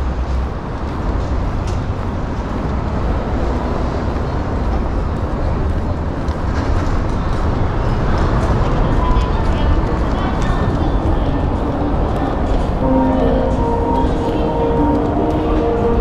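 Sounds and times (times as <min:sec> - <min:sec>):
city road traffic rumble: 0:00.0 - 0:16.0.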